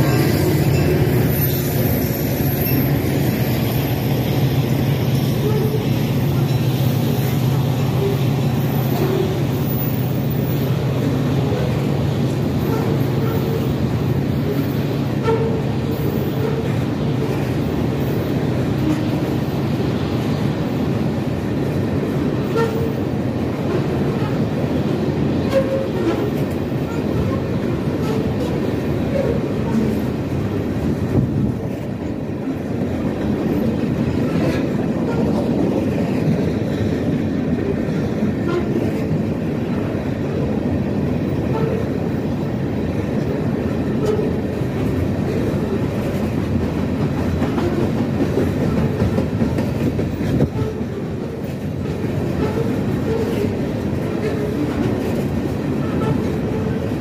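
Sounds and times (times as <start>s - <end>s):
train wheels rumbling on rail: 0.0s - 57.0s
wheels clacking over rail joints: 0.0s - 57.0s.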